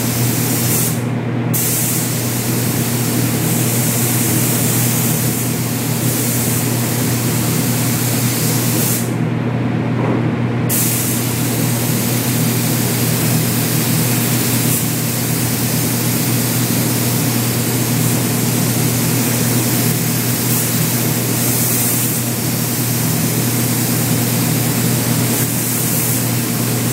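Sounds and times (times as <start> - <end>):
paint spray gun hissing: 0.0 - 1.0, 1.6 - 9.1, 10.7 - 26.9
steady low hum: 0.0 - 26.9.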